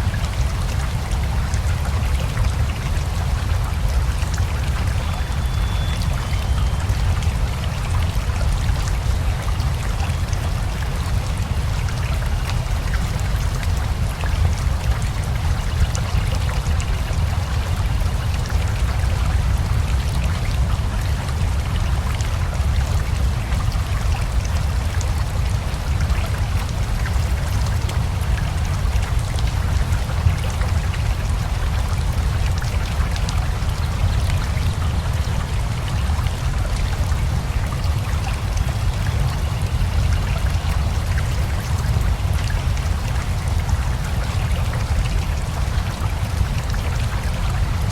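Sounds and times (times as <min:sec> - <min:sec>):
rushing river: 0:00.0 - 0:47.9
steady rain: 0:00.0 - 0:47.9.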